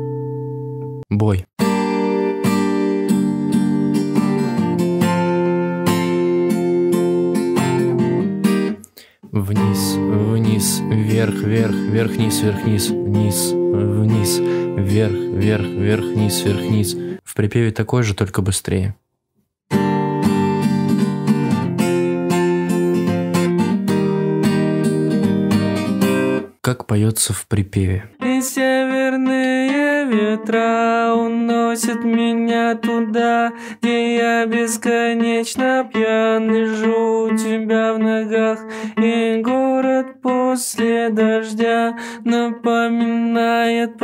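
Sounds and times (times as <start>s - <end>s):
acoustic guitar strumming: 1.6s - 17.2s, 19.7s - 26.6s, 28.2s - 44.0s.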